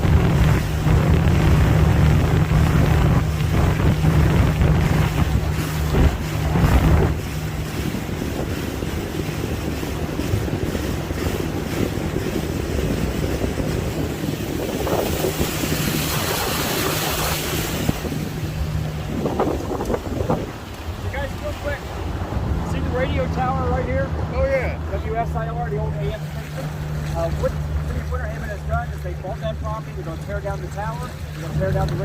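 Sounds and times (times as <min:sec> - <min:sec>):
boat engine hum: 0:00.0 - 0:32.0
rushing wind and water: 0:00.0 - 0:32.0
wind buffeting microphone: 0:00.0 - 0:32.0.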